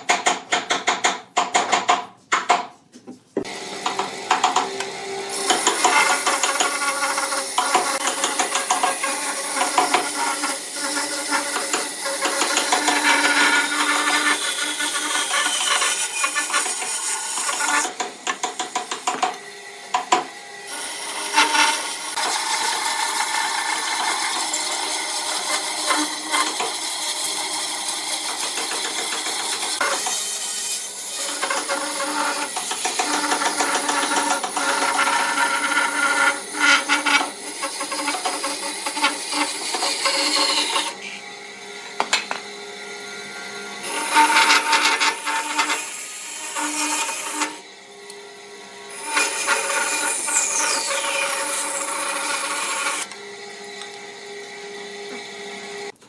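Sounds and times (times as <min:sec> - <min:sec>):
power tool whining on wood: 0:03.4 - 0:56.0.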